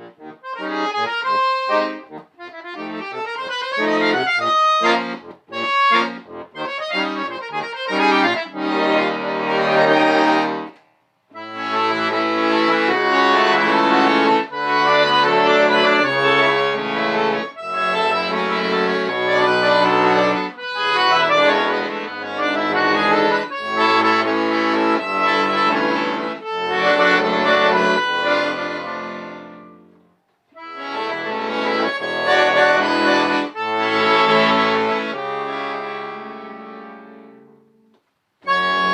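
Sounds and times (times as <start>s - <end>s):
accordion playing: 0.0s - 38.9s.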